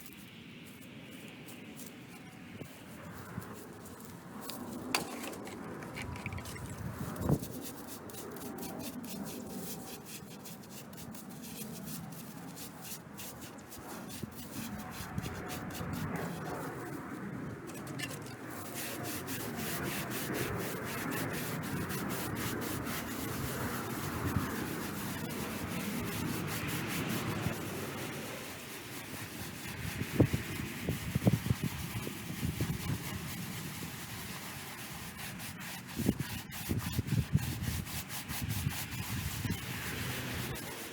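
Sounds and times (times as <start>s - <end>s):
brush scrubbing stone: 0.0s - 40.9s.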